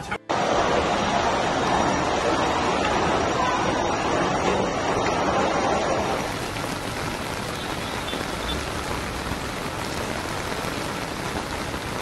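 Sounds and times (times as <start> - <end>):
floodwater rushing and splashing: 0.3 - 12.0
heavy rain on street: 0.3 - 12.0.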